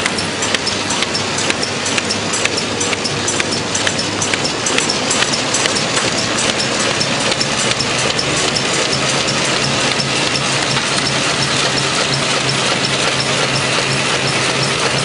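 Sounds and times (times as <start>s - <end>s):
machine clattering: 0.0s - 15.0s.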